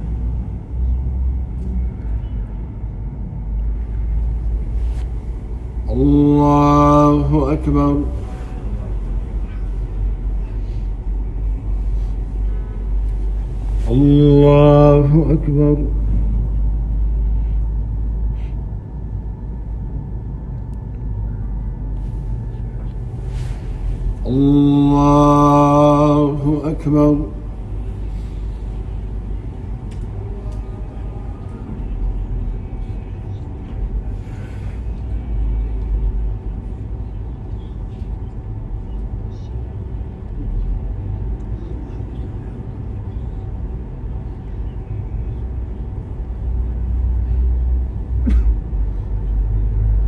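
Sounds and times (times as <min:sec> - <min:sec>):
faint constant hum: 0:00.0 - 0:50.0
low rumble: 0:00.0 - 0:50.0.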